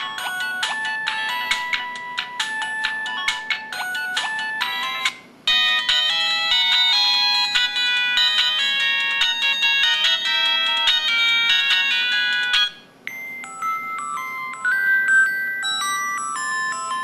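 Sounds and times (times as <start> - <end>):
phone ringtone melody: 0.0 - 17.0.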